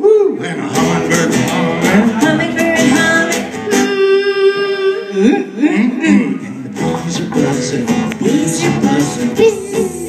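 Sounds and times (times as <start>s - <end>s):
live band with guitars: 0.0s - 10.0s.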